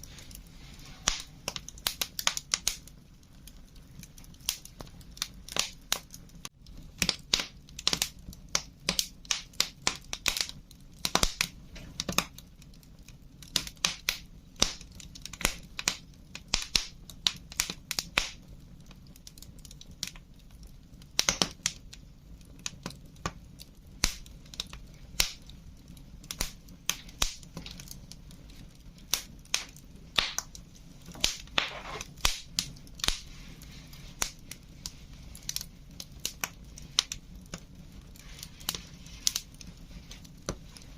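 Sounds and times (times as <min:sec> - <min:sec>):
fire rumbling: 0:00.0 - 0:40.9
logs popping and snapping: 0:01.0 - 0:18.4, 0:21.1 - 0:25.6, 0:26.2 - 0:33.4, 0:34.0 - 0:40.9.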